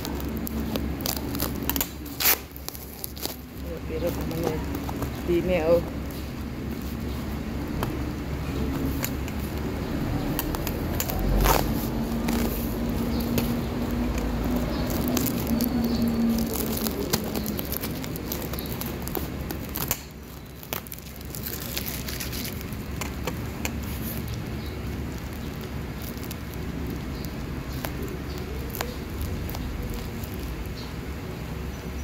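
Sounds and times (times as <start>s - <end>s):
scissors snipping: 0.0s - 6.2s, 6.8s - 30.7s
plastic and bubble wrap crinkling: 0.0s - 31.6s.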